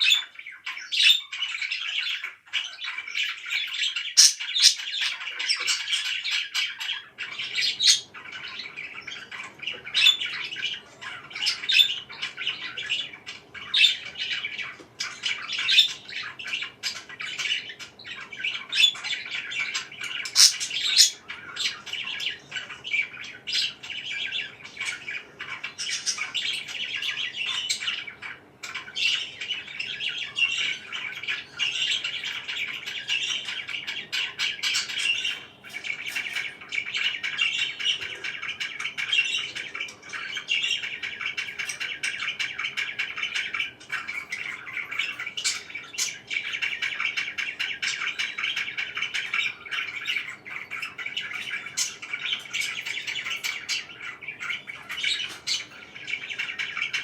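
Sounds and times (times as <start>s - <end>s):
parakeets chirping and squawking: 0.0s - 57.0s.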